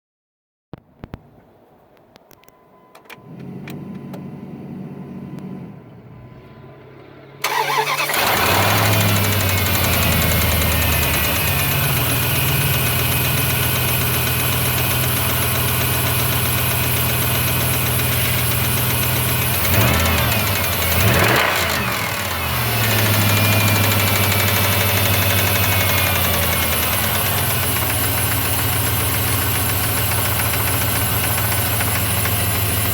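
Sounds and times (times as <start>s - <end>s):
car engine starting and idling: 2.9s - 32.9s.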